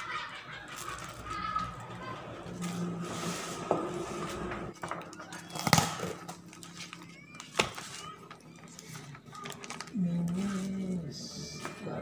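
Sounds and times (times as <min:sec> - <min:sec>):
plastic and paper packaging rustling: 0:00.0 - 0:12.0.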